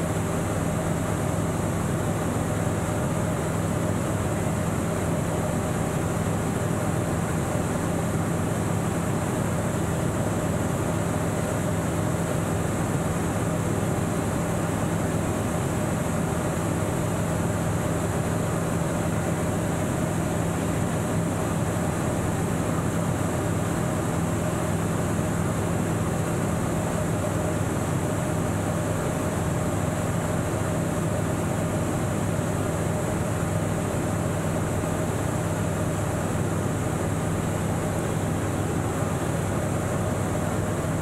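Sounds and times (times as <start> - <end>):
light aircraft engine droning: 0.0 - 41.0.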